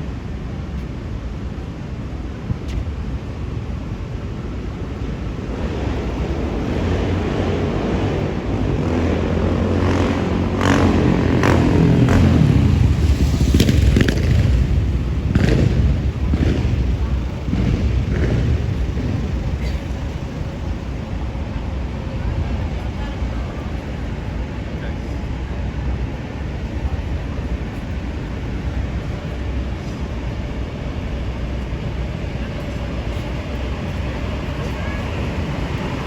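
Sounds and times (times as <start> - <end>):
engine rumble of passing traffic: 0.1 - 36.0.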